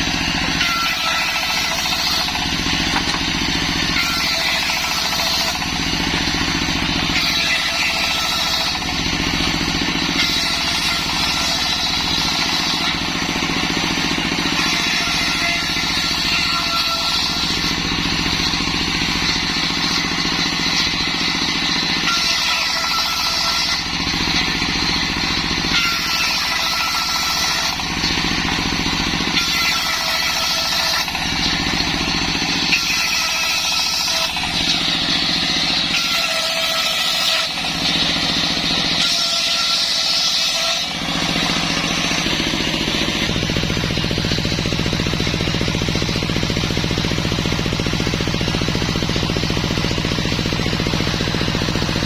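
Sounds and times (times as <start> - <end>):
circular saw cutting wood: 0.0 - 52.0.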